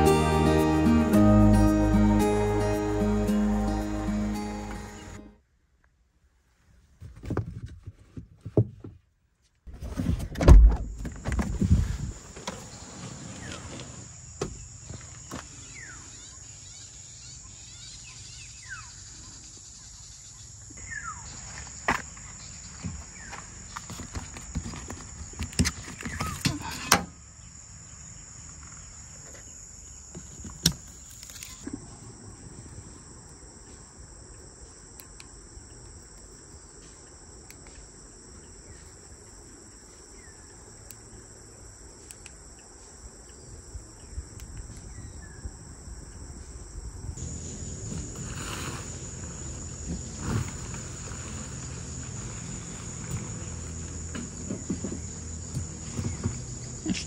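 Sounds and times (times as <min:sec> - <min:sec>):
high-pitched insect chorus: 0:00.0 - 0:05.3, 0:11.0 - 0:57.0.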